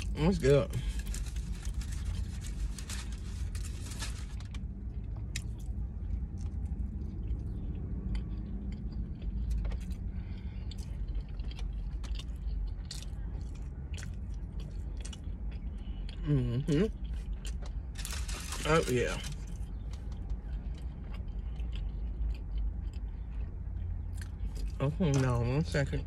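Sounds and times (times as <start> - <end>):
chewing and biting food: 0.0 - 25.7
steady low hum: 0.0 - 26.0.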